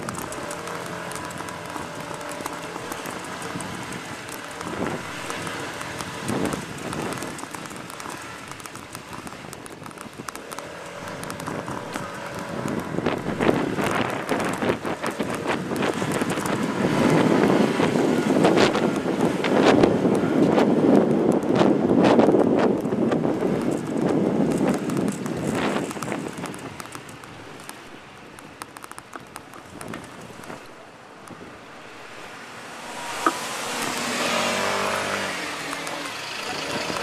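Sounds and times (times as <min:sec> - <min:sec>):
traffic hum: 0:00.0 - 0:37.0
wind buffeting microphone: 0:00.0 - 0:37.0.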